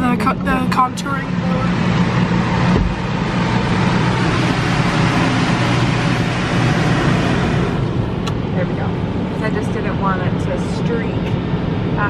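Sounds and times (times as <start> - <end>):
car wash blower rushing air: 0.0 - 12.0.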